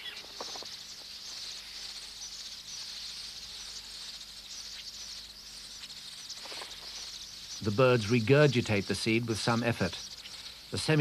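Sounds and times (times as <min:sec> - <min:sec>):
bird colony chattering: 0:00.0 - 0:11.0.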